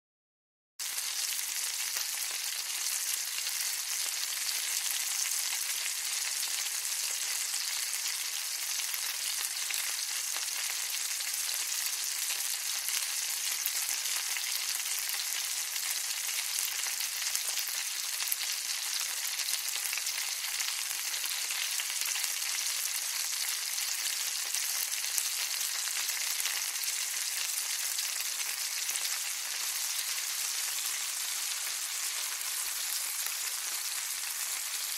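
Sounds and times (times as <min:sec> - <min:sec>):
food frying in hot oil: 0:00.8 - 0:34.9.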